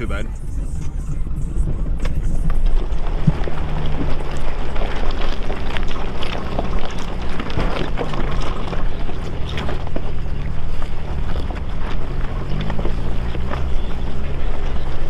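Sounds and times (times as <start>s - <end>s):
low engine drone: 0.0s - 15.0s
tyres grinding over loose rocks: 1.9s - 15.0s.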